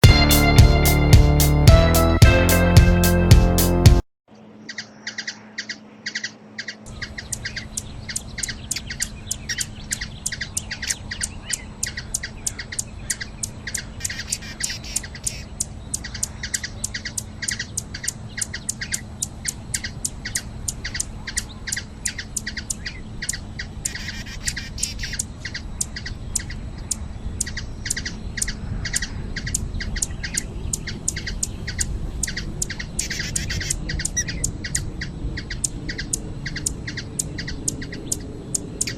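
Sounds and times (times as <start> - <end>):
hummingbird chip calls: 4.4 - 38.9.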